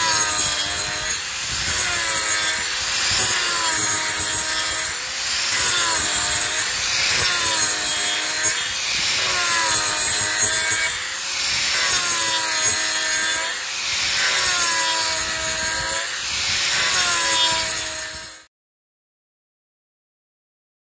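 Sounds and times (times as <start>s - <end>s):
angle grinder rasping wood: 0.0s - 18.5s.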